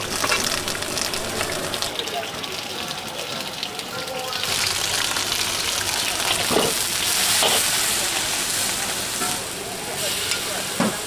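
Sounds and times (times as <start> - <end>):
noodles sizzling in a pan: 0.0 - 11.0.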